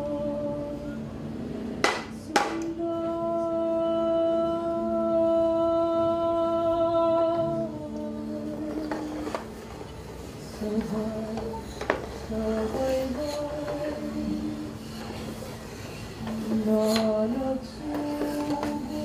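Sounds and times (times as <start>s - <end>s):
voices humming held notes: 0.0s - 19.0s.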